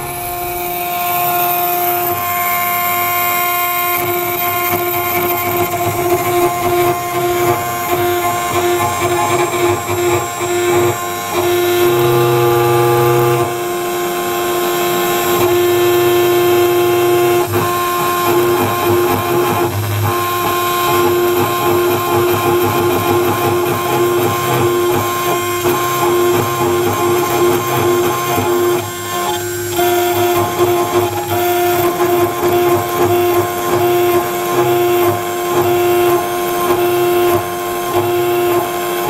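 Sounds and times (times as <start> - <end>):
axis drives whirring: 0.0 - 39.0
router spindle whine: 0.0 - 39.0.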